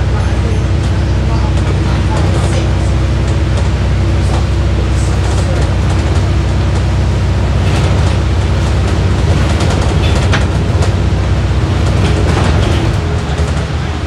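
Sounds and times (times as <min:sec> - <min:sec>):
bus engine drone: 0:00.0 - 0:14.0
road noise: 0:00.0 - 0:14.0
interior fittings rattling: 0:00.8 - 0:13.9.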